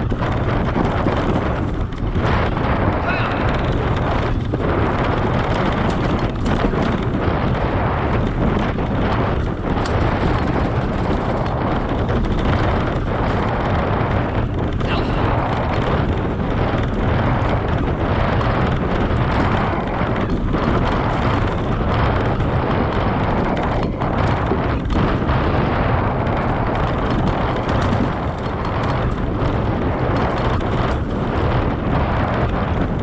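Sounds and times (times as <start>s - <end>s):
bike rumbling over dirt trail: 0.0s - 33.0s
wind buffeting microphone: 0.0s - 33.0s.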